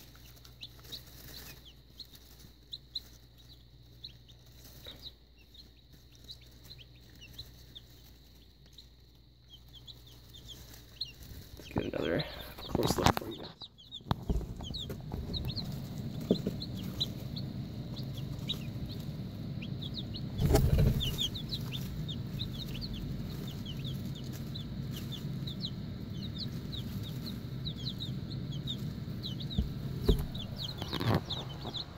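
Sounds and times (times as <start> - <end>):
baby chicks peeping: 0.0 - 31.9
steady low hum: 0.0 - 31.9.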